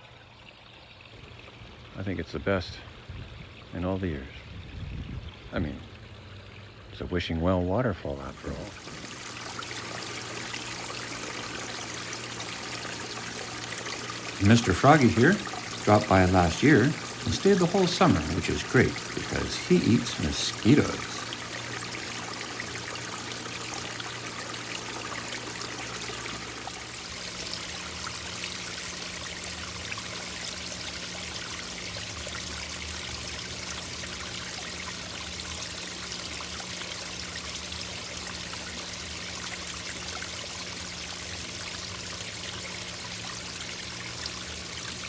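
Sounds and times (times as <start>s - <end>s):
water pouring into pond: 0.0s - 2.5s, 8.0s - 45.0s.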